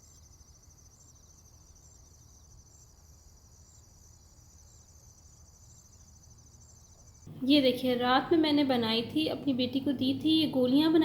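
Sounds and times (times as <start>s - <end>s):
faint insects chirring: 0.0s - 11.0s.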